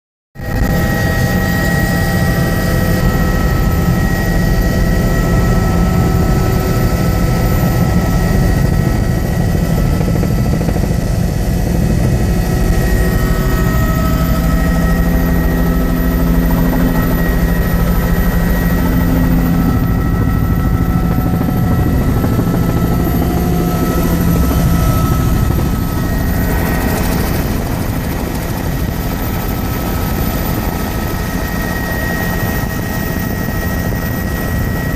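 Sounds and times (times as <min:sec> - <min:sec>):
helicopter rotor beat and whine: 0:00.4 - 0:34.9.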